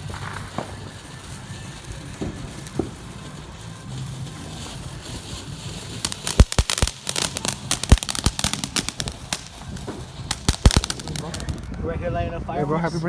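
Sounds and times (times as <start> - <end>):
fireworks popping and cracking: 0.0 - 12.0.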